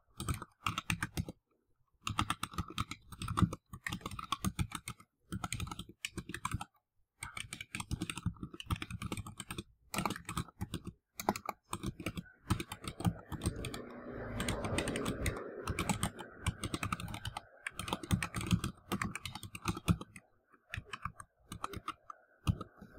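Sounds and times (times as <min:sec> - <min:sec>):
typing on computer keyboard: 0:00.0 - 0:01.4, 0:02.0 - 0:22.9.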